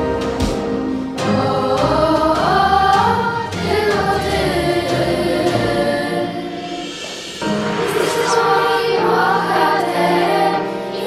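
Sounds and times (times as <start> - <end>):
girls' choir singing pop song: 1.1 - 11.0.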